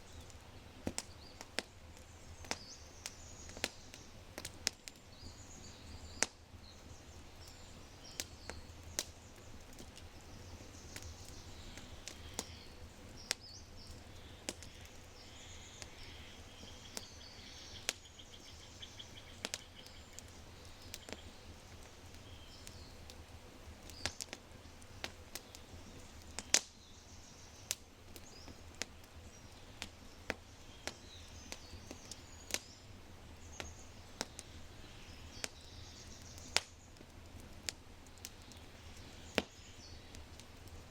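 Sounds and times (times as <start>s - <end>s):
fire crackling and popping: 0.0s - 40.9s
small birds chirping: 0.0s - 40.9s.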